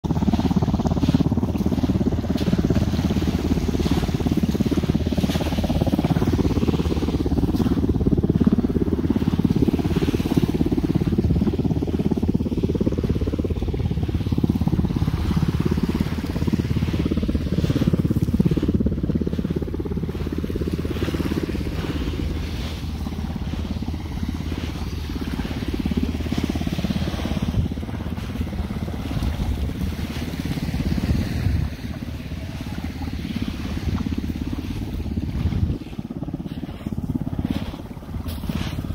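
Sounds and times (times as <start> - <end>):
boat motor rumbling: 0.0 - 38.9.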